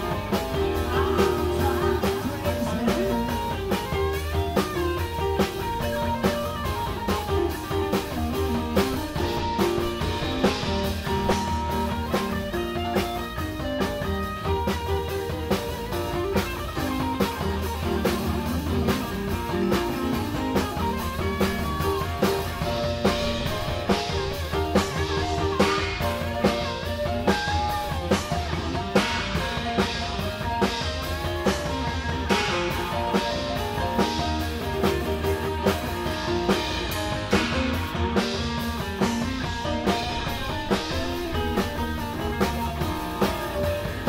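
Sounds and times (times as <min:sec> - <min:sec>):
bending lead guitar line: 0:00.0 - 0:44.0
live rock band playing: 0:00.0 - 0:44.0.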